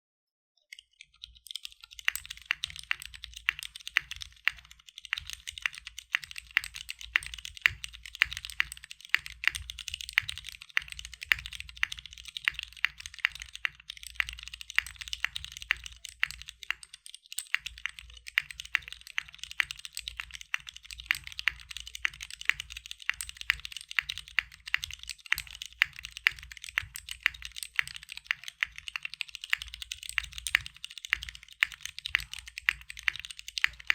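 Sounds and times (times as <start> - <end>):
mechanical keyboard typing: 0.8 - 33.9.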